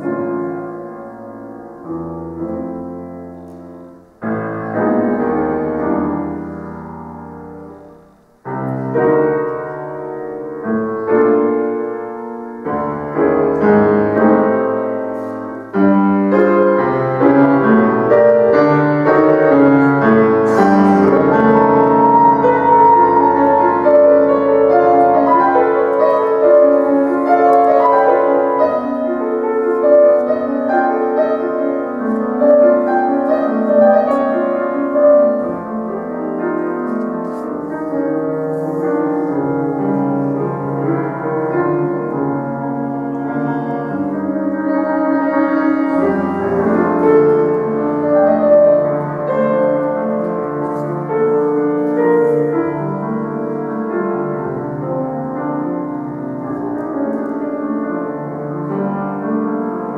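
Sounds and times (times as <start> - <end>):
classical piano playing: 0.0 - 59.9.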